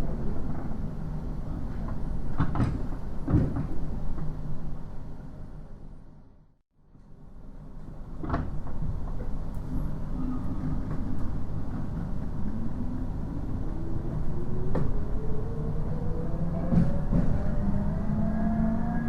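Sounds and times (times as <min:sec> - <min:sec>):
train running rumble: 0:00.0 - 0:06.0, 0:07.7 - 0:19.0.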